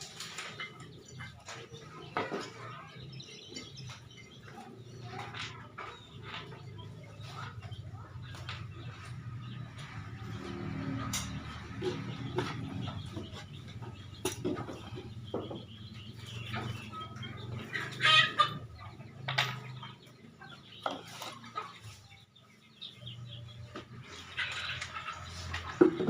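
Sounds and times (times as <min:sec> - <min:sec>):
chicken clucking: 0:00.0 - 0:26.0.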